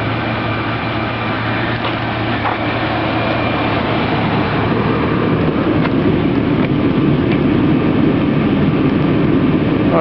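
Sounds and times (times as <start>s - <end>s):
truck engine idling: 0.0s - 8.7s.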